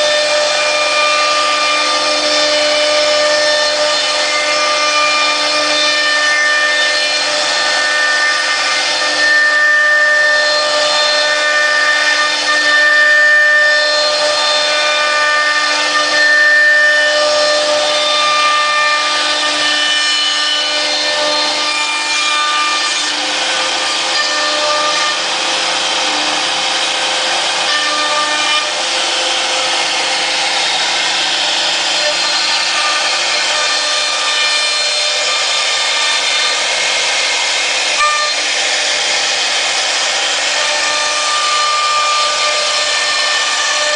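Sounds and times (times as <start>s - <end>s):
router spindle high whine: 0.0s - 43.9s.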